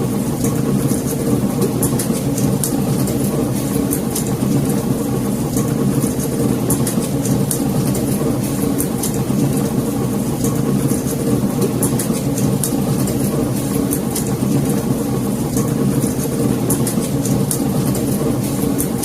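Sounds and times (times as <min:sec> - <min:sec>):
wood fire crackling and popping: 0:00.4 - 0:19.0.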